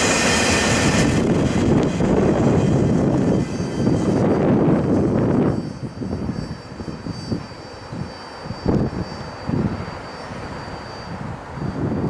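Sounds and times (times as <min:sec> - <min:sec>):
freight train rumble: 0:00.0 - 0:12.0
wind gusts on microphone: 0:00.0 - 0:12.0.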